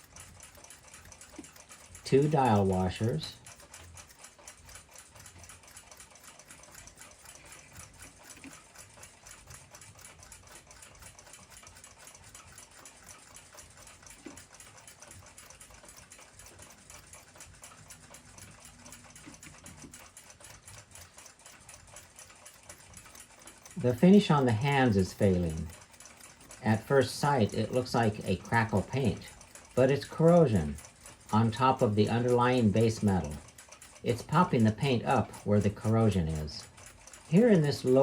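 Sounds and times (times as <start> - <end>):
fast even ticking: 0.0 - 38.0.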